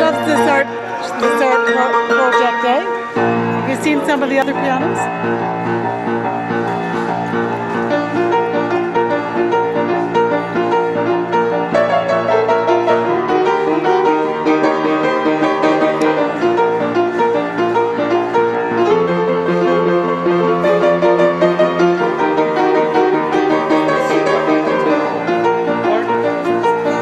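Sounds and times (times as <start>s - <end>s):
boogie-woogie piano: 0.0s - 27.0s.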